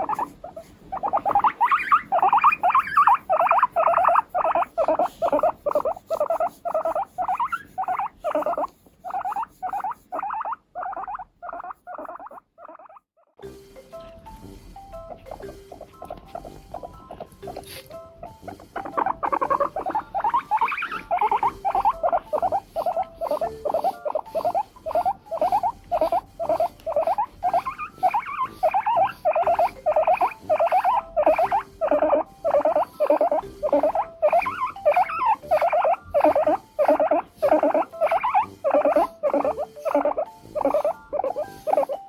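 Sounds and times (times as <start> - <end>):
guinea pig squeaking: 0.0 - 42.0.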